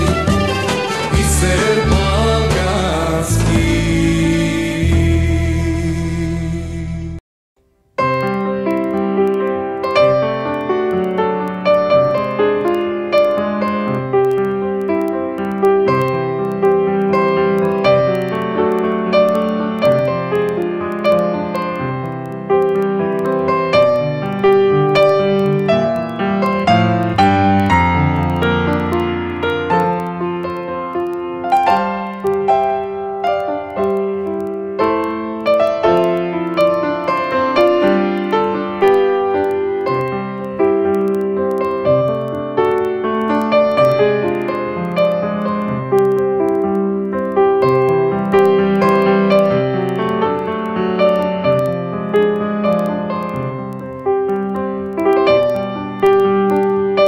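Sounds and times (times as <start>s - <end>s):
keyboard melody over chords: 0.0s - 7.2s, 8.0s - 57.0s.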